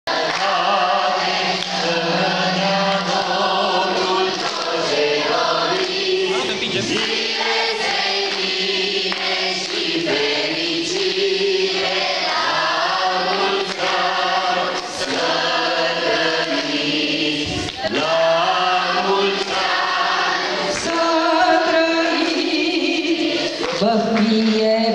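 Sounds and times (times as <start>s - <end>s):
group singing a carol: 0.1s - 24.9s.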